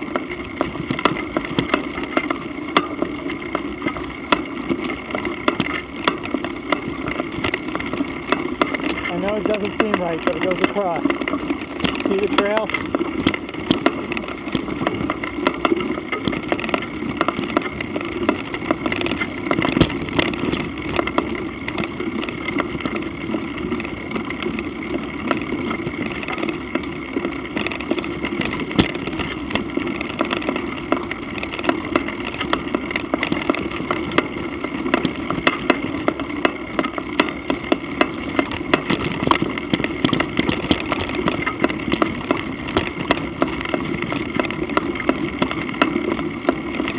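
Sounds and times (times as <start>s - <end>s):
camera movement rumble: 0.0s - 46.9s
sharp clicks and knocks: 0.0s - 46.9s.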